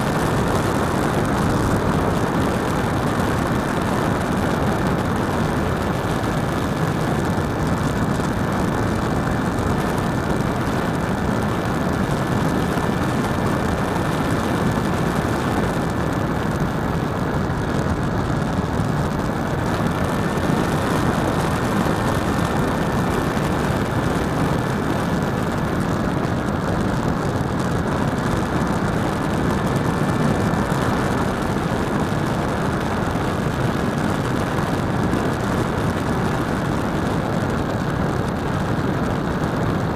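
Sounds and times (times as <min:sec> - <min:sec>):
rush of air: 0:00.0 - 0:39.9.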